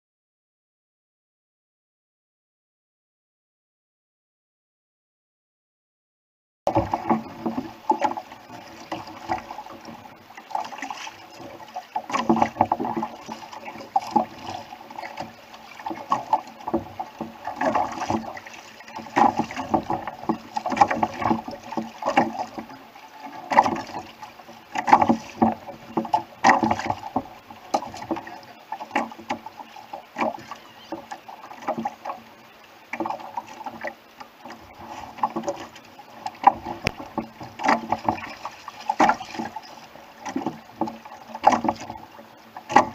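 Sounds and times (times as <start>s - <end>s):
hull and rigging knocks: 6.7s - 32.3s, 32.9s - 42.9s
water splashing against hull: 6.7s - 42.9s.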